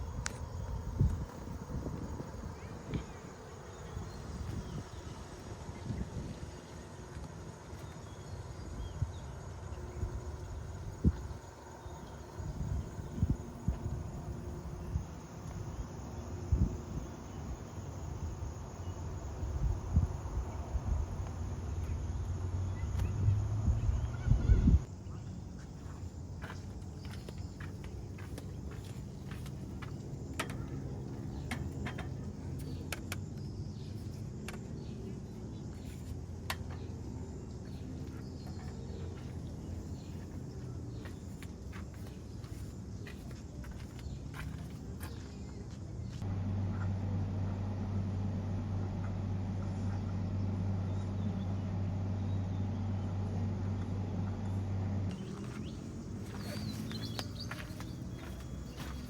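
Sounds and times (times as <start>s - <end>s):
low machine hum: 0.0s - 43.5s, 44.1s - 59.0s
low mechanical rumble: 0.0s - 59.0s.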